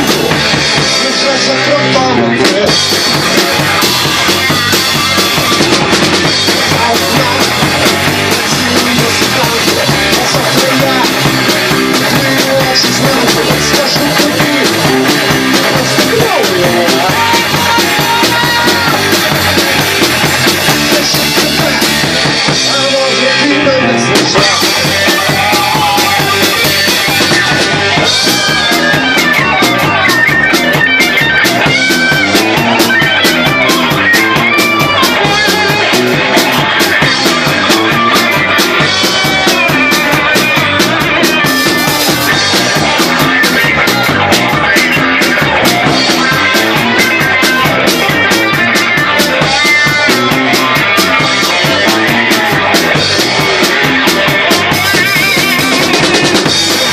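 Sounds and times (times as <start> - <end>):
drumming: 0.0 - 56.9
rockabilly band playing: 0.0 - 56.9.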